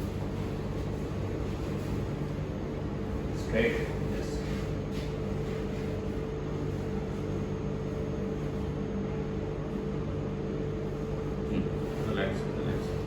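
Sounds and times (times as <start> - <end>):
air conditioning hum: 0.0 - 13.0.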